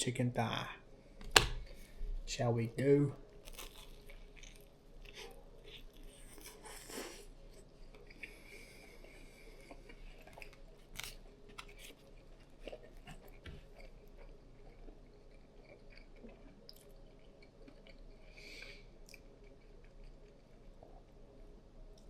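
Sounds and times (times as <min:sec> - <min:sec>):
person chewing food: 0:03.2 - 0:22.0.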